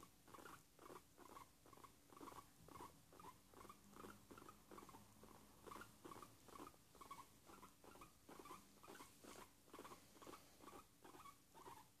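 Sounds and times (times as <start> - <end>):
guinea pig contented sounds: 0.0 - 12.0.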